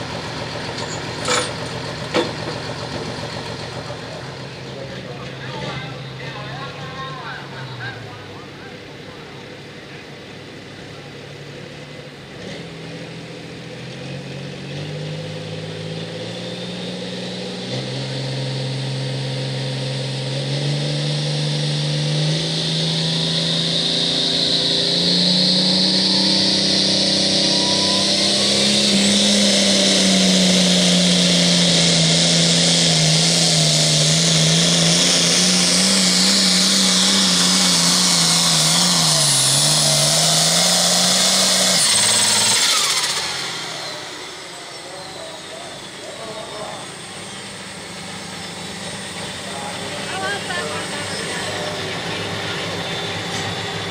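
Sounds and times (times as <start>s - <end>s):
diesel tractor engine revving hard: 0.0s - 8.2s, 11.2s - 53.9s.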